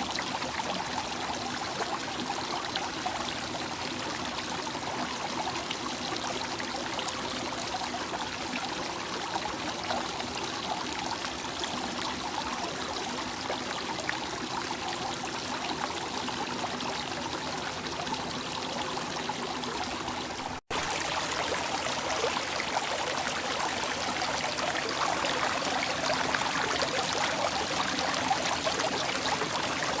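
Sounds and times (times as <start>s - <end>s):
water flowing and splashing: 0.0s - 30.0s.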